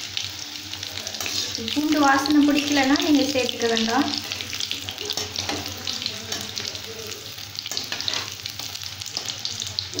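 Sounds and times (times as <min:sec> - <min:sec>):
garlic sizzling in hot oil: 0:00.0 - 0:10.0.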